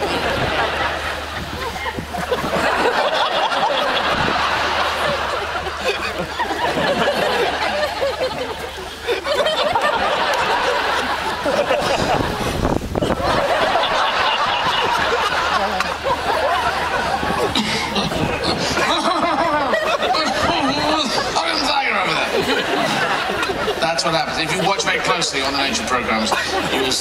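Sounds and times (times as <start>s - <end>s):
large audience laughing: 0.0s - 27.0s.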